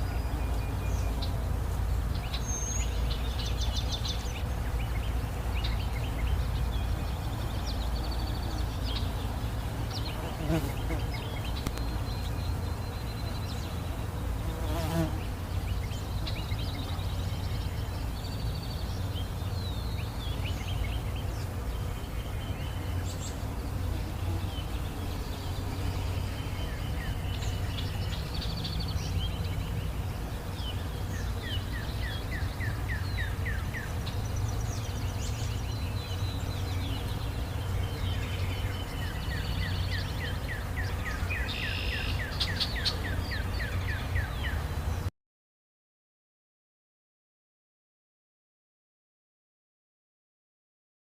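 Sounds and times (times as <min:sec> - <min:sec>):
rapid repeated bird notes: 0:00.0 - 0:44.8
songbirds singing: 0:00.0 - 0:45.1.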